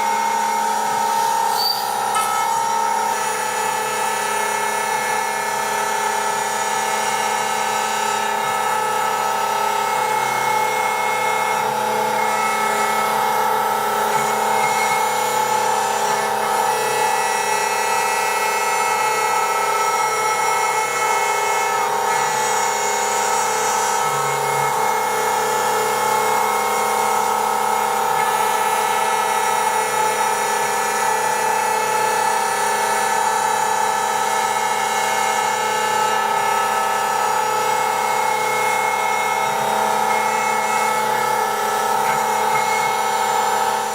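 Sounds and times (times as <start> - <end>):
power tool motor whining: 0.0 - 43.9.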